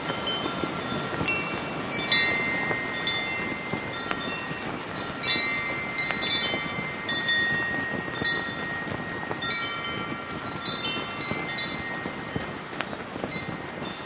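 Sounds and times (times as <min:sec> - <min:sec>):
brass wind chimes ringing: 0:00.0 - 0:14.0
flag flapping: 0:00.0 - 0:14.0.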